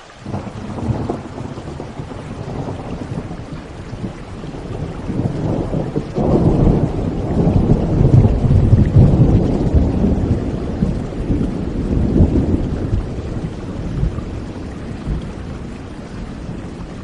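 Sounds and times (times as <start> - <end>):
steady rain: 0.0 - 17.0
rolling thunder: 0.2 - 17.0.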